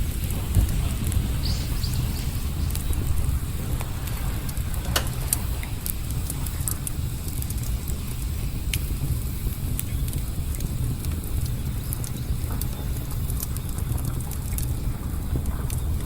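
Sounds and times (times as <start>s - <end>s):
campfire wood crackling and popping: 0.0s - 16.0s
low rumble: 0.0s - 16.0s.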